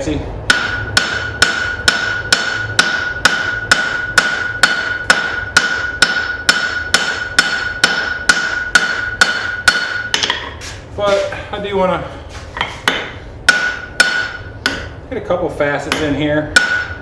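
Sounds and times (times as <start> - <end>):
hammer striking steel on anvil: 0.5 - 10.6, 12.6 - 15.0, 15.8 - 17.0.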